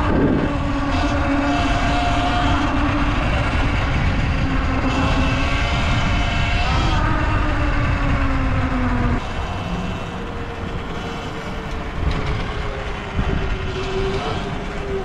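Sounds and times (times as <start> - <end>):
electric motor whine: 0.0 - 15.0
wind rumble on microphone: 0.0 - 15.0.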